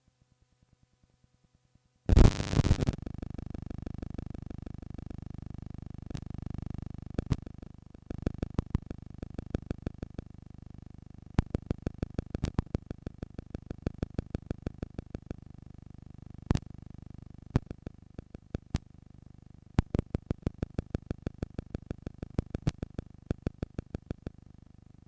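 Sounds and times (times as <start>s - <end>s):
tape hiss: 2.1s - 25.0s.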